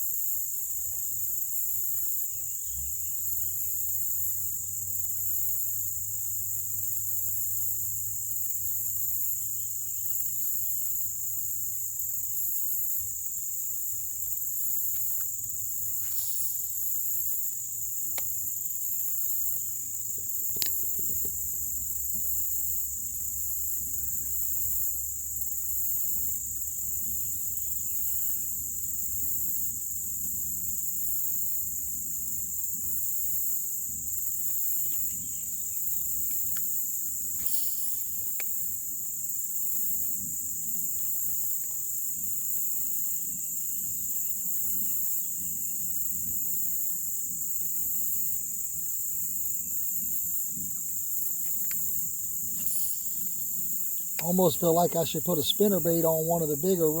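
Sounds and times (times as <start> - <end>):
insects shrilling: 0.0 - 57.0.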